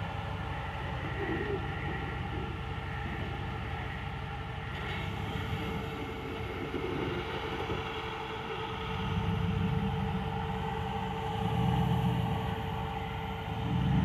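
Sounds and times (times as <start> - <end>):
engine rumbling at low revs: 0.0 - 14.0.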